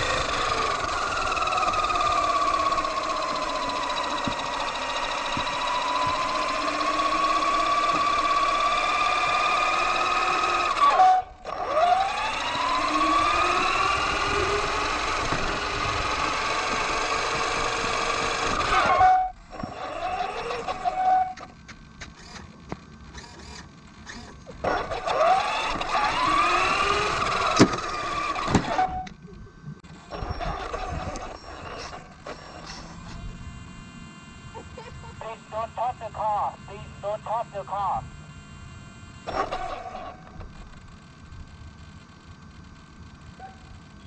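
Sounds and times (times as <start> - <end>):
electric motor whining: 0.0 - 44.0.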